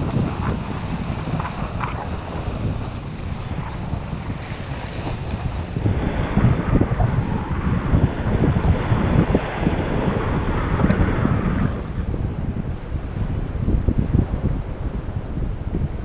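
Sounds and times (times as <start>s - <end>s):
small waves washing on shore: 0.0s - 16.0s
wind buffeting microphone: 0.0s - 16.0s.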